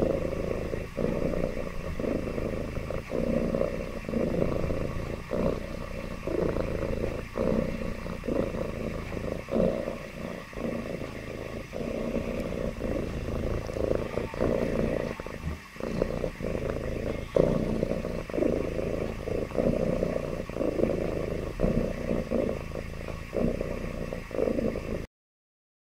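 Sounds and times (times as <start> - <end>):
cat purring: 0.0 - 25.1.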